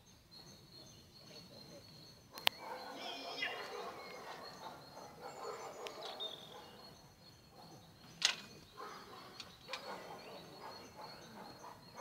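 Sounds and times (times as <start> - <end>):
faint bird calls: 0.4 - 12.0.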